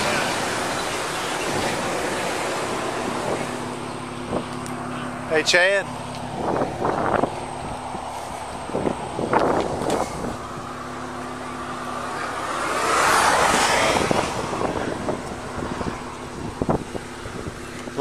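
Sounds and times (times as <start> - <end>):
car passing on highway: 0.0 - 17.9.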